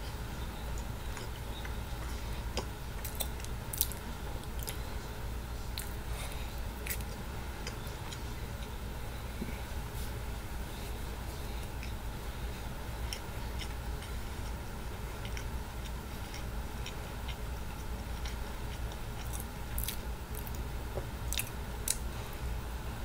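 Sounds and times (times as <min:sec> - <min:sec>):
steady low hum: 0:00.0 - 0:23.0
person chewing food: 0:00.6 - 0:04.9, 0:05.6 - 0:08.8, 0:09.5 - 0:22.2.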